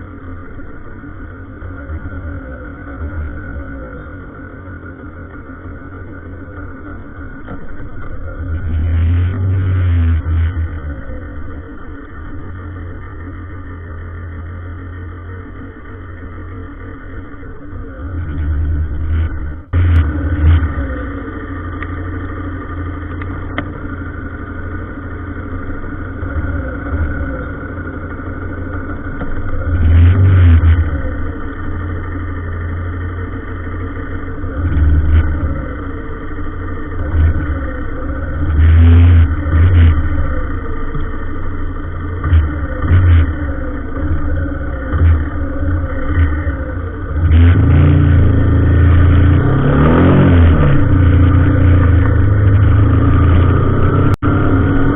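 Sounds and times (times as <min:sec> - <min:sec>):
road traffic engines droning: 0:00.0 - 0:54.9
vehicles accelerating: 0:00.0 - 0:54.9.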